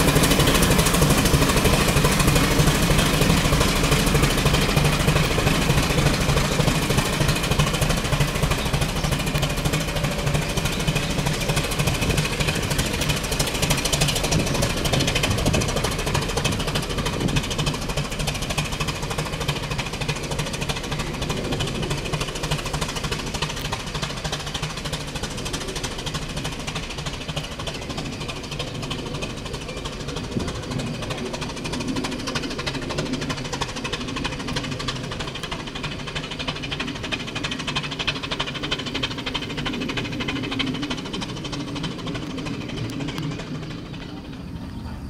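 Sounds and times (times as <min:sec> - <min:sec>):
steam locomotive exhaust beats: 0:00.0 - 0:45.0.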